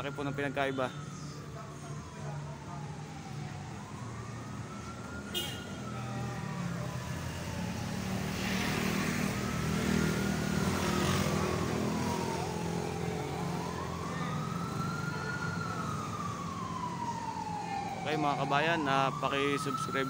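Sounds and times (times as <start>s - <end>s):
emergency vehicle siren wailing: 0.0s - 20.0s
road traffic engine noise: 0.0s - 20.0s.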